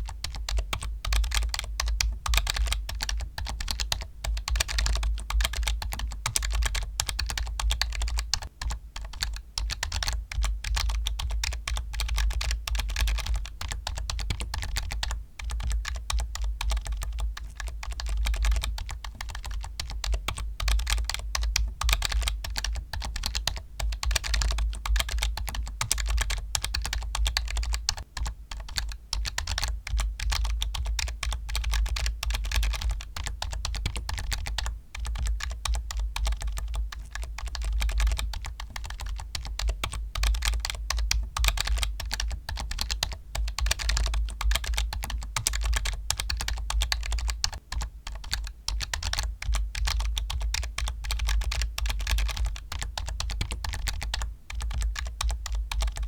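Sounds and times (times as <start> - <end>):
fast keyboard typing: 0.0 - 56.0.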